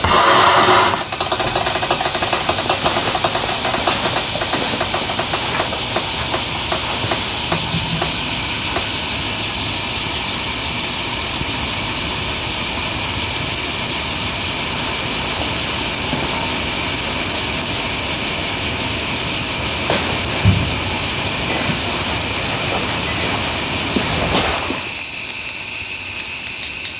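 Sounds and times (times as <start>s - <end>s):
alcohol stove flame hissing: 0.0s - 26.9s.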